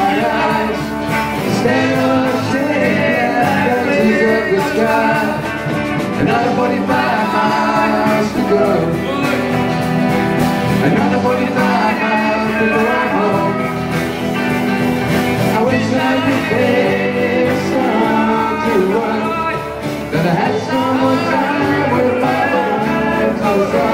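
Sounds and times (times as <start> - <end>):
person singing: 0.0 - 14.5, 15.4 - 23.9
live country-rock band playing: 0.0 - 23.9.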